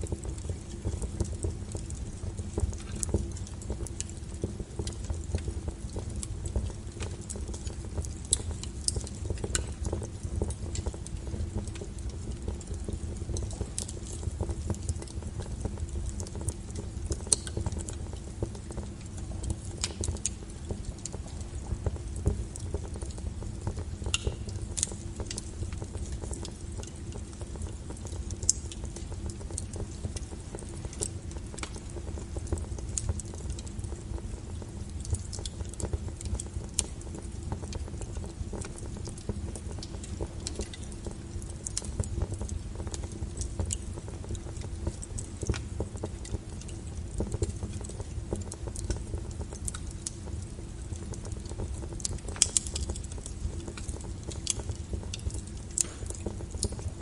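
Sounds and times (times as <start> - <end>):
firewood crackling and popping: 0.0 - 57.0
low rumble of flames: 0.0 - 57.0.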